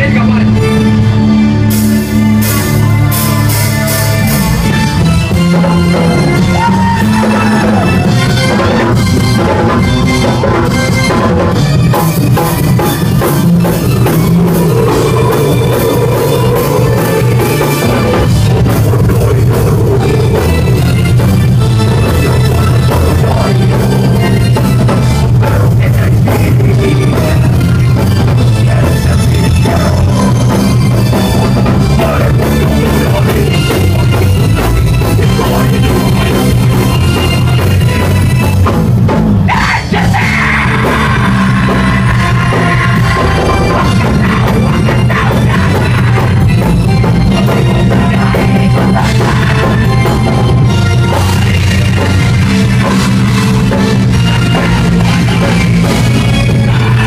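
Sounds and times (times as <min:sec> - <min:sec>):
heavy metal band playing live: 0:00.0 - 0:57.0.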